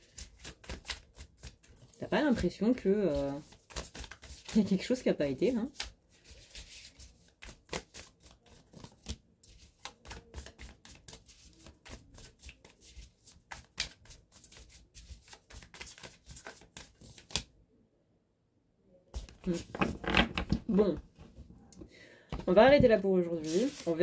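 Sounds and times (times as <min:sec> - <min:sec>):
cards being shuffled: 0:00.0 - 0:17.5, 0:19.2 - 0:21.5, 0:22.4 - 0:24.0.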